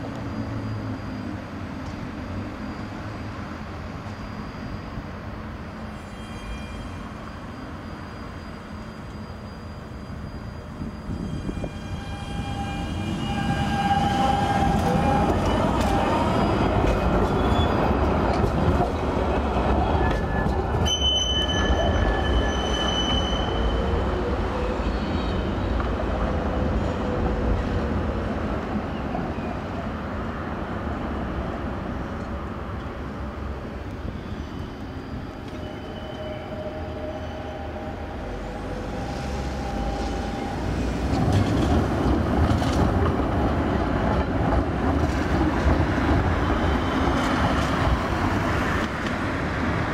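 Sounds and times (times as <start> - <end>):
tram rumbling past: 0.0 - 49.9
tram wheels squealing: 0.0 - 49.9.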